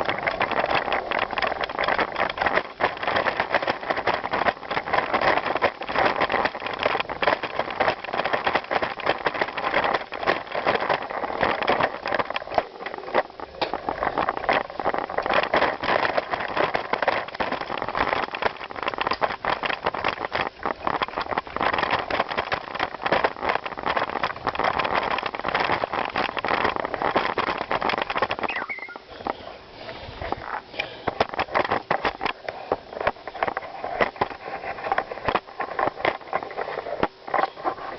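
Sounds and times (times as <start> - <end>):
bicycle rattling over rough ground: 0.0 - 37.9
wind noise on microphone: 0.0 - 37.9.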